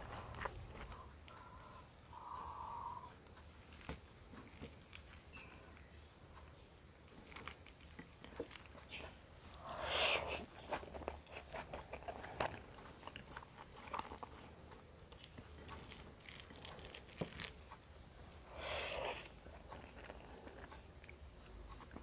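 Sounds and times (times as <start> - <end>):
wet chewing sounds: 0.0 - 22.0.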